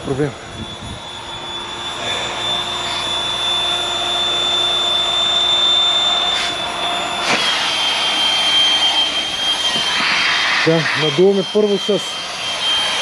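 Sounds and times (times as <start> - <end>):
electric air pump whining: 0.0 - 13.0.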